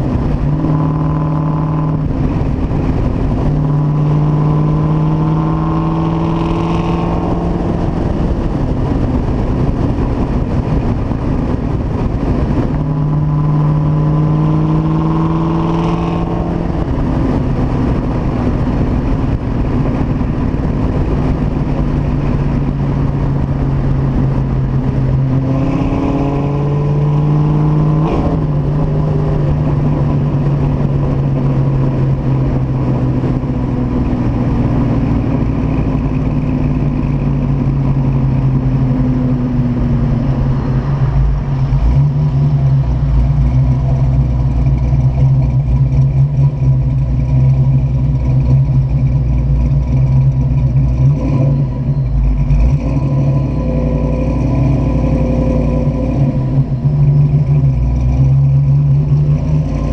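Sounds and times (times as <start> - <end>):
car engine revving and cruising: 0.0 - 59.9.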